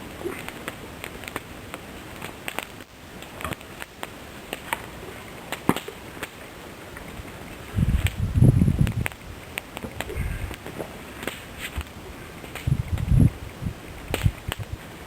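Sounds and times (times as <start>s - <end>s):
campfire crackling and popping: 0.0s - 15.0s
faint hiss: 0.0s - 15.0s.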